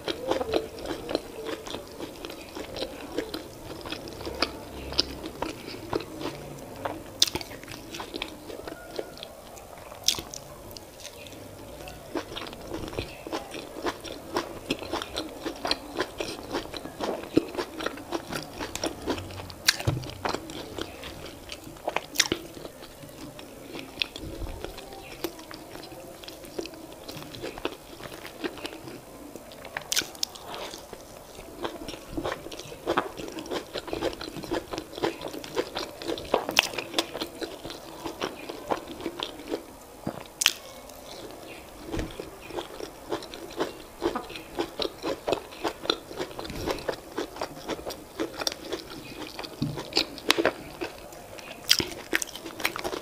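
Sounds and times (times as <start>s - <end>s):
person chewing: 0.0s - 53.0s.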